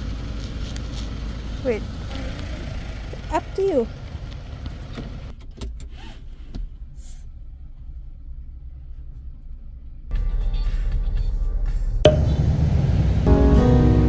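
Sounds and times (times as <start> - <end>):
car rumbling: 0.0 - 14.0.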